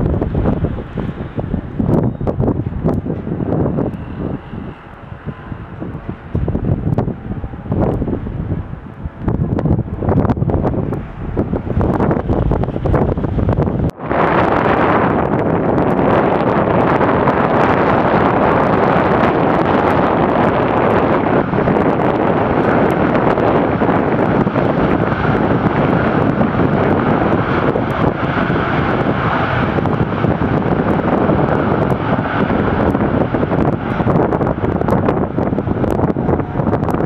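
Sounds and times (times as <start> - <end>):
jet engines running: 0.0 - 37.0
wind buffeting microphone: 0.0 - 37.0.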